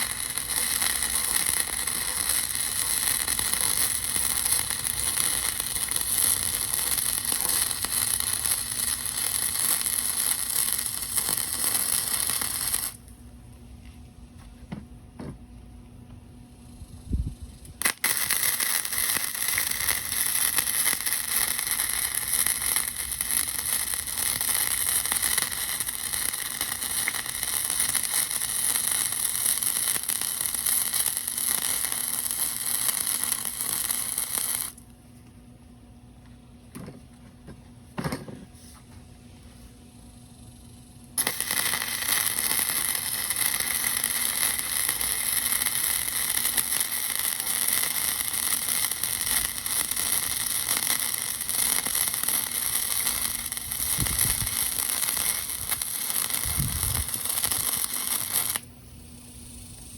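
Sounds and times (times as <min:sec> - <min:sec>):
welding arc crackling: 0:00.0 - 0:13.2, 0:17.8 - 0:34.8, 0:41.2 - 0:59.9.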